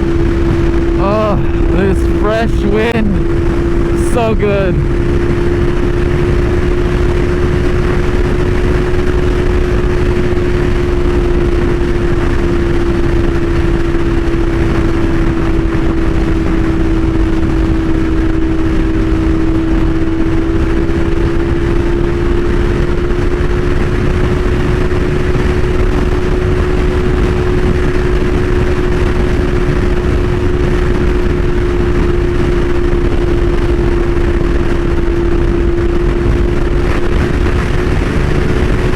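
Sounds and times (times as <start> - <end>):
motorcycle engine cruising: 0.0 - 1.8, 2.8 - 38.9
wind noise on microphone: 0.0 - 38.9.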